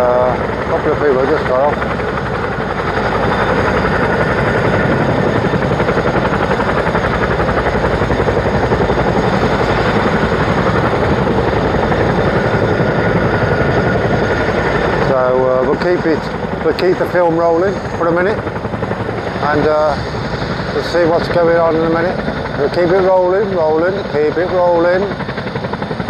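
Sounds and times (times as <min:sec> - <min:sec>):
helicopter rotor chop: 0:00.0 - 0:26.0
helicopter whine: 0:00.0 - 0:26.0.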